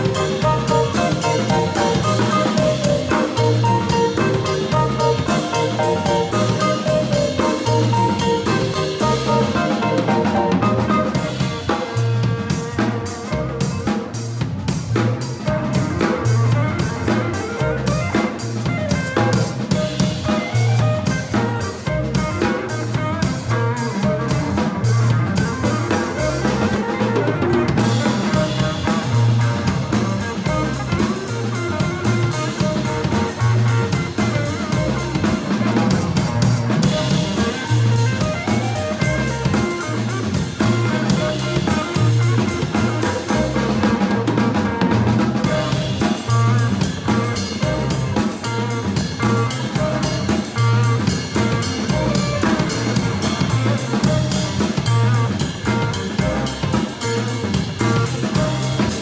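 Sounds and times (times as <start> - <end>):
busy drumming with rimshots: 0.0 - 59.0
electric guitar: 0.0 - 59.0
low bass line: 0.0 - 59.0.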